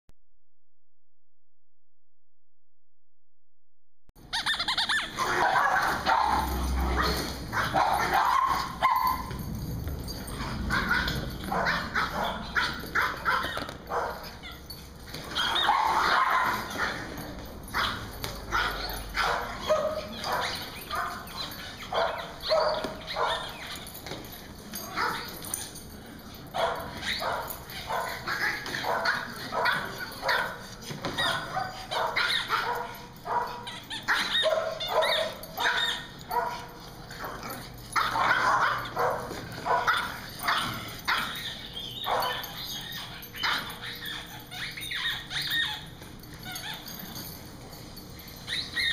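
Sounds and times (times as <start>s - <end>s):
small dogs barking and yipping: 4.2s - 48.9s.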